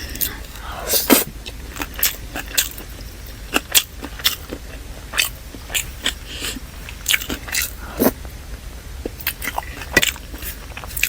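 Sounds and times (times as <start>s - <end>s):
person chewing food: 0.0s - 8.4s, 9.0s - 11.0s.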